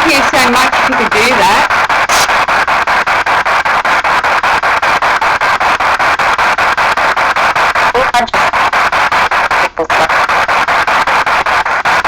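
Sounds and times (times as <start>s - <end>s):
pulsing radio static: 0.0s - 12.0s.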